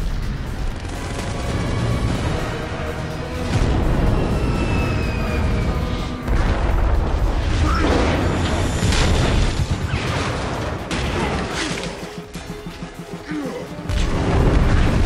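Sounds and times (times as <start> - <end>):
explosions and heavy booms: 0.0 - 11.6, 13.9 - 15.0
film score: 0.0 - 15.0.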